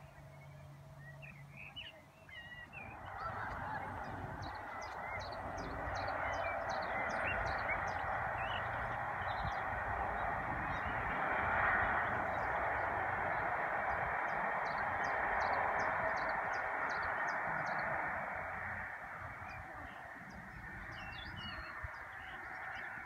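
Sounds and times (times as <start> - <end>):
small birds chirping: 0.0 - 23.0
distant train rushing: 2.8 - 22.7.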